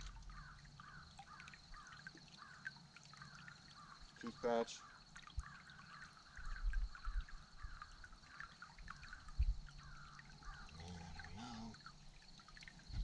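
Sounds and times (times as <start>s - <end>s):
water lapping against a boat: 0.0s - 13.0s.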